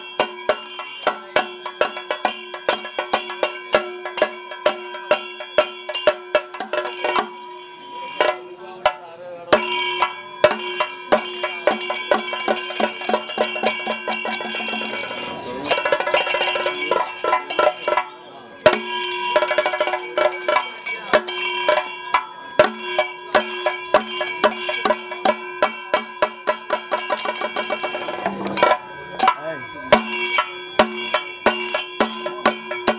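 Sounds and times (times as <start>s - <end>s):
drum and cymbal strokes: 0.0s - 8.9s, 9.5s - 32.9s
ringing metallic tones: 0.0s - 32.9s.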